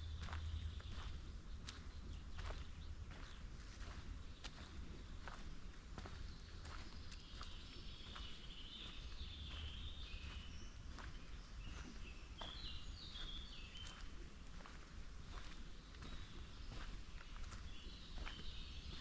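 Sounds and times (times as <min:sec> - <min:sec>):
faint low rumble: 0:00.0 - 0:19.0
footsteps on forest path: 0:00.0 - 0:19.0
songbird singing: 0:00.0 - 0:19.0.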